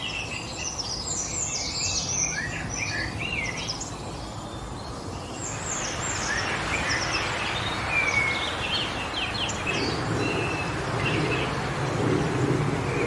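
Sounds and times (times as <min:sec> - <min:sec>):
small birds chirping: 0:00.0 - 0:13.0
wind through trees: 0:00.0 - 0:13.0.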